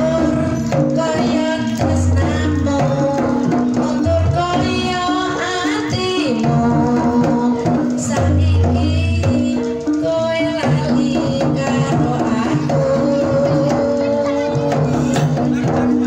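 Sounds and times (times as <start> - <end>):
drums: 0.0 - 16.0.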